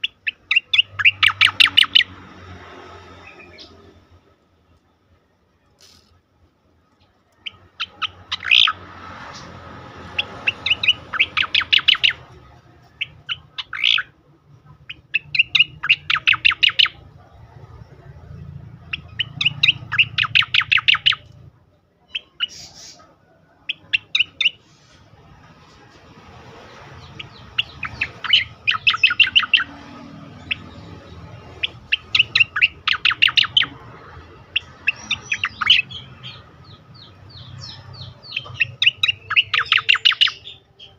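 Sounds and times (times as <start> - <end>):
bird singing in rapid bursts: 0.0 - 4.3, 7.0 - 23.0, 23.6 - 25.4, 26.2 - 40.9.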